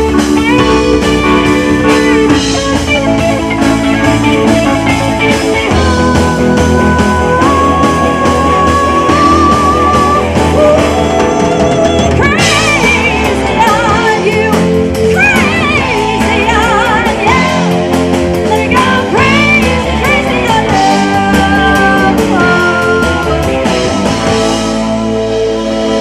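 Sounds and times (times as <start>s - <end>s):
drum kit: 0.0s - 26.0s
electric guitar: 0.0s - 26.0s
woman singing with vibrato: 0.3s - 24.8s.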